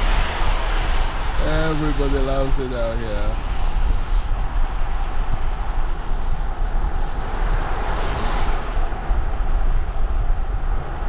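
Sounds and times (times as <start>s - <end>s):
tyre and road noise: 0.0s - 11.0s
wind buffeting microphone: 0.0s - 11.0s.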